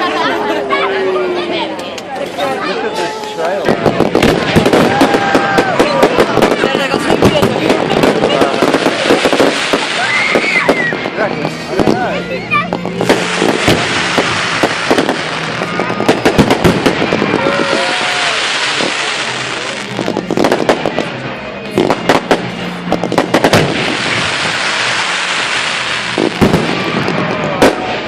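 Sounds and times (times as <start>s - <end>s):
fireworks bangs and crackling: 3.0s - 28.0s
fireworks fizzing hiss: 3.6s - 21.1s, 21.8s - 28.0s.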